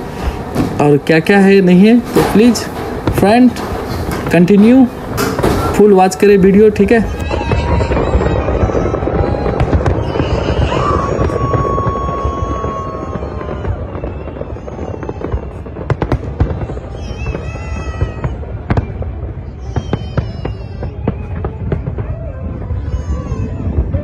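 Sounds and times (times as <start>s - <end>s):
fireworks crackling and booming: 0.0s - 24.0s.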